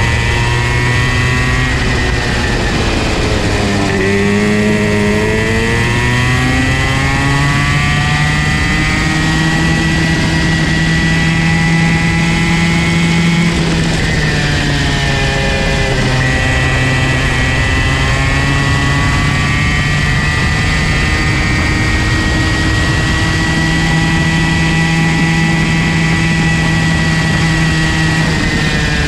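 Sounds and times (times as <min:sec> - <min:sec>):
kart engine at high revs: 0:00.0 - 0:29.0.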